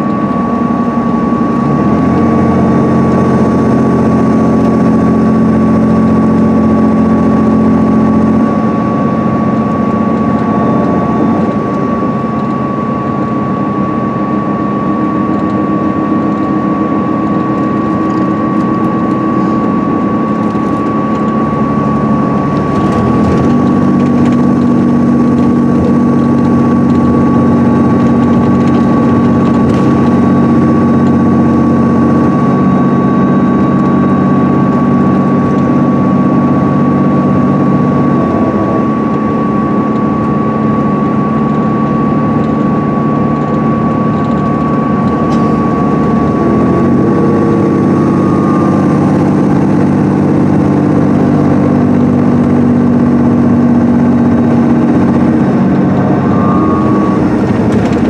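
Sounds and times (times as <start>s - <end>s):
bus diesel engine running: 0.0s - 58.0s
thin high whine: 0.0s - 58.0s.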